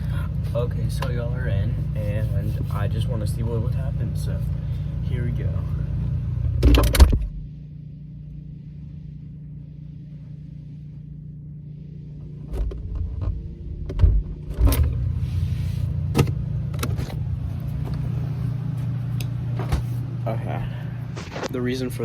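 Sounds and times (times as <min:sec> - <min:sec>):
refrigerator humming: 0:00.0 - 0:22.0.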